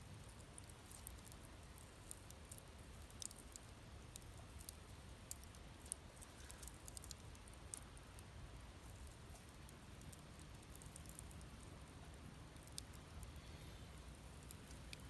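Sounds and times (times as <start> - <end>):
wood fire crackling faintly: 0.0 - 15.0.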